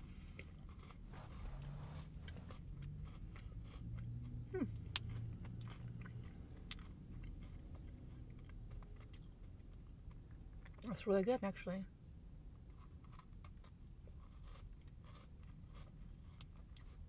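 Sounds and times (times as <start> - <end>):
cookie chewing crunches: 0.0 - 11.5, 12.3 - 17.0.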